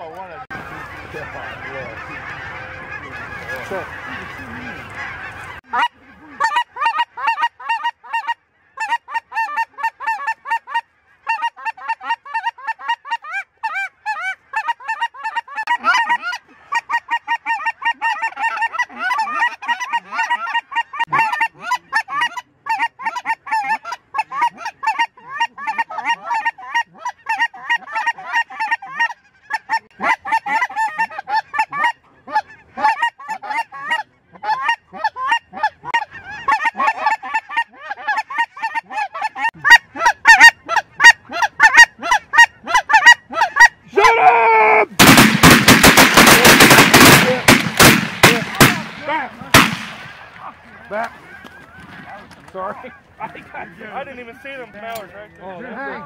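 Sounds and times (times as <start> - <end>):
geese calling: 0.0 - 56.0.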